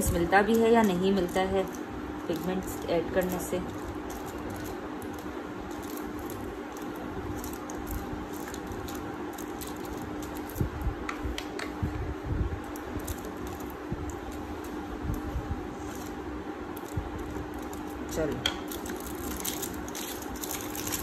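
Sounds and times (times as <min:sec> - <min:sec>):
foil crinkling: 0:00.0 - 0:10.8, 0:12.7 - 0:14.8, 0:15.7 - 0:21.0
steady low hum: 0:00.0 - 0:21.0.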